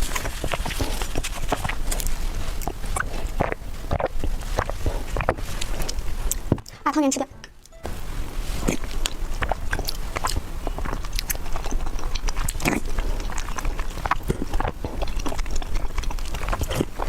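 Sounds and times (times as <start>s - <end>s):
person chewing sticky food: 0.0s - 6.8s, 8.3s - 17.0s.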